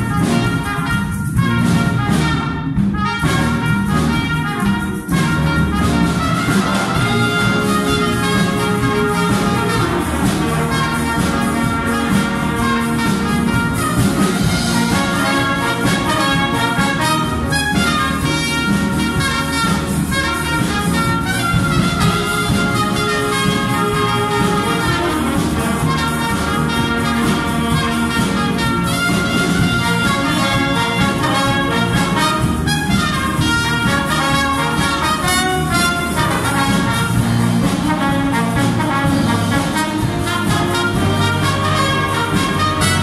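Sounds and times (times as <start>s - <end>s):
big band playing: 0.0s - 43.0s
trumpets and saxophones: 0.0s - 43.0s.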